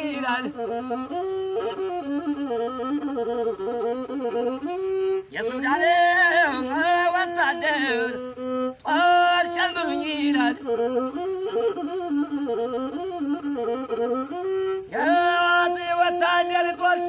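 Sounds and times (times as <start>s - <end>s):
bowed one-string fiddle melody: 0.0s - 17.0s.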